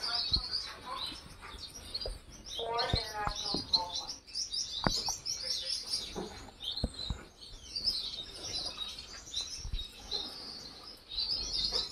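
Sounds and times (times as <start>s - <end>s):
finches chirping: 0.0s - 11.9s.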